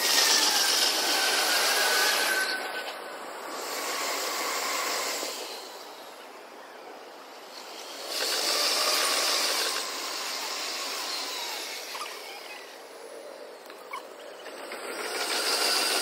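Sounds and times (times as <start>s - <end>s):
trains rushing past: 0.0s - 11.9s, 12.6s - 16.0s.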